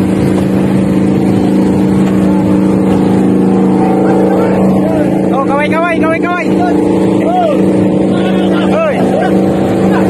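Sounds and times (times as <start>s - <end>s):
boat engine drone: 0.0s - 10.0s.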